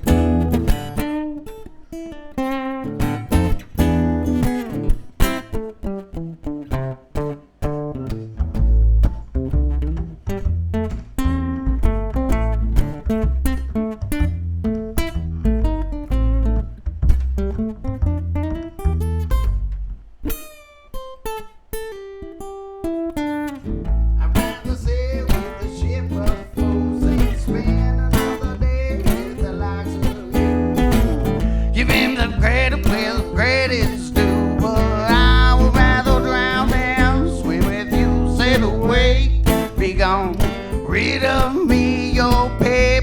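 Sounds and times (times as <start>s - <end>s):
acoustic guitar band playing: 0.0s - 43.0s
picked guitar notes: 0.0s - 43.0s.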